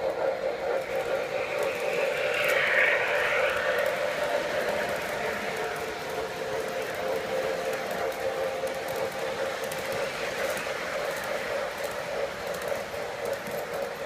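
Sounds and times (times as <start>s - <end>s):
model train humming on track: 0.0s - 14.0s.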